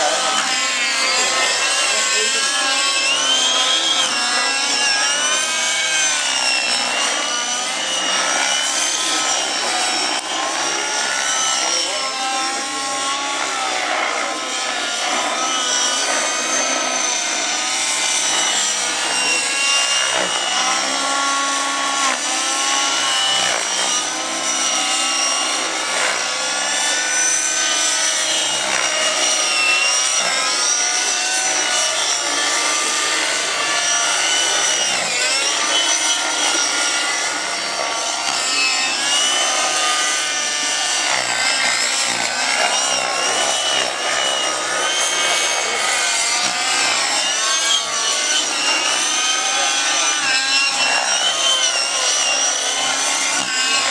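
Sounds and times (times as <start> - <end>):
model helicopters whining overhead: 0.0 - 53.9.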